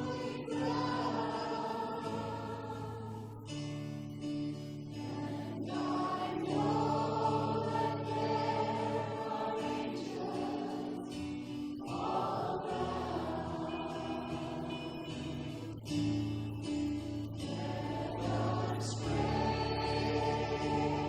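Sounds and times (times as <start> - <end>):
voices singing: 0.0 - 3.7, 4.4 - 21.0.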